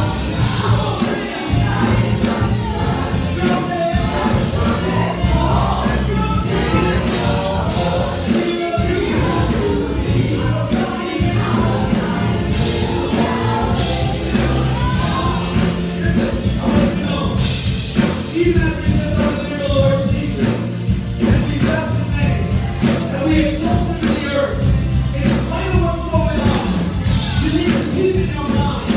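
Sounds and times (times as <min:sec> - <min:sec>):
gospel choir singing: 0:00.0 - 0:28.9
live band with bass and drums: 0:00.0 - 0:28.9.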